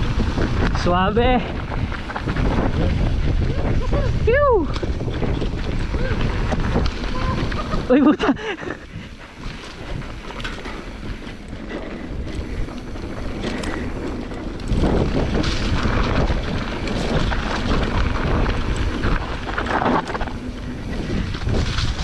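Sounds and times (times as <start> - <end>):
bike rattles and knocks: 0.0 - 22.0
tyres rolling on dirt: 0.0 - 22.0
wind rushing over microphone: 0.0 - 22.0.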